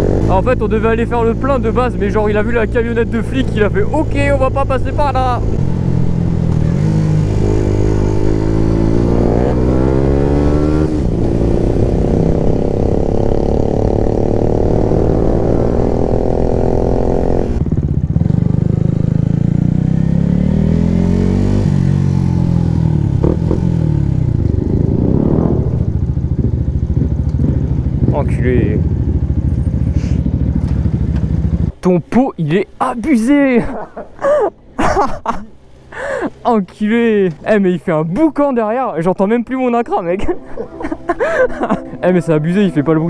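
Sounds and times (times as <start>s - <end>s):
motorcycle engines accelerating: 0.0s - 35.4s, 39.7s - 43.0s.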